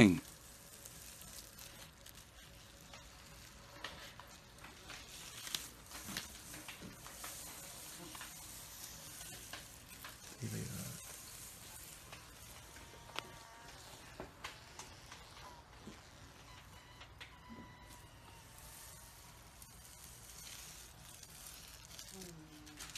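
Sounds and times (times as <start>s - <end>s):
dry snake skin crinkling: 0.0s - 22.9s.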